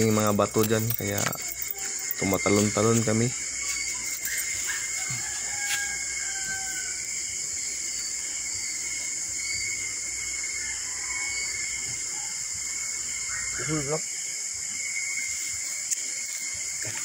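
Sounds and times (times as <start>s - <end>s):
night insects droning: 0.0s - 17.0s.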